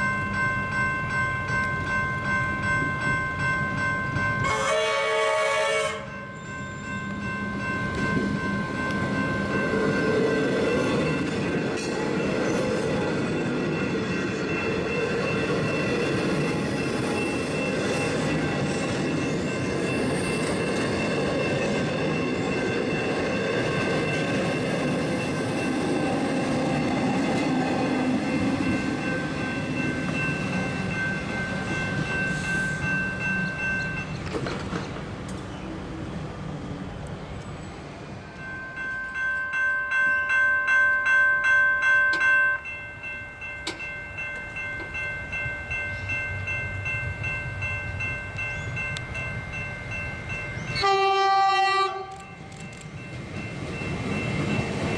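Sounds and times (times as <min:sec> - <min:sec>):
train wheels rumbling on rails: 0:00.0 - 0:40.2, 0:42.0 - 0:54.9.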